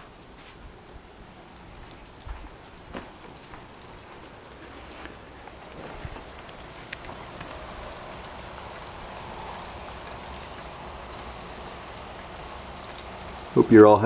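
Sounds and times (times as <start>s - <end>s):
steady rain falling: 0.0s - 14.0s
sharp drip ticks: 1.4s - 14.0s.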